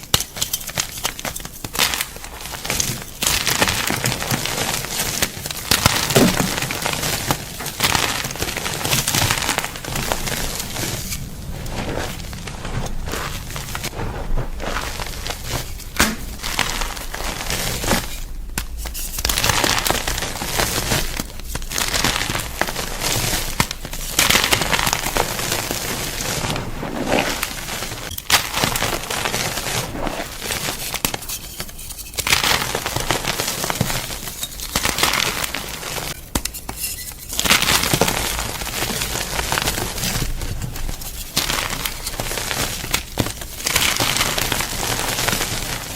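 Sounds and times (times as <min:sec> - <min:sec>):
chalk crunching and crackling: 0:00.2 - 0:45.9.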